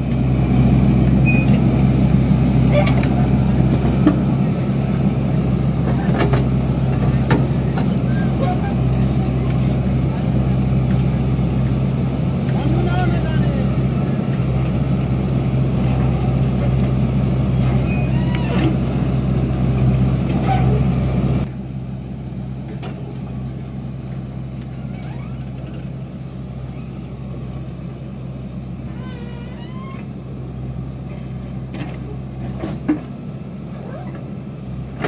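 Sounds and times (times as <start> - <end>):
diesel backhoe engine running: 0.0 - 35.0.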